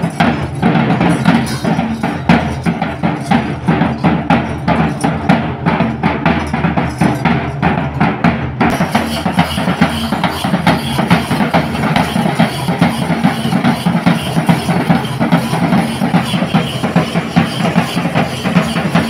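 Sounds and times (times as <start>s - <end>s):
barrel drums beaten with sticks: 0.0s - 19.0s.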